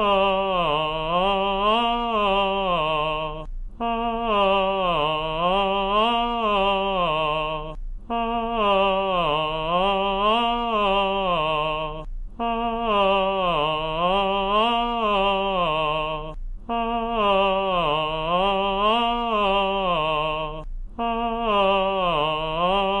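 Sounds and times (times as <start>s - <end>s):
man singing vocal exercise: 0.0s - 23.0s.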